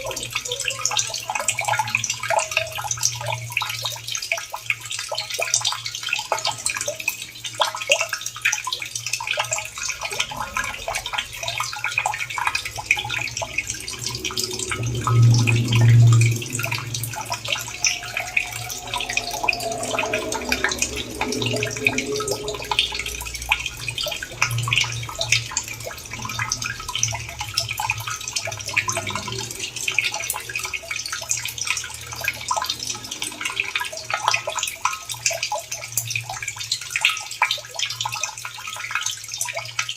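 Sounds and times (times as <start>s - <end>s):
water dripping: 0.0s - 39.9s
water running and splashing: 0.0s - 39.9s.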